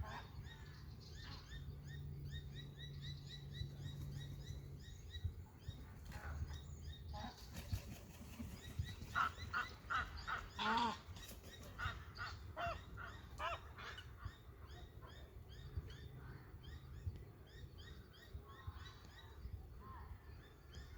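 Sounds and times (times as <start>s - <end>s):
birds calling loudly: 0.0s - 19.3s
low background rumble: 0.0s - 20.9s.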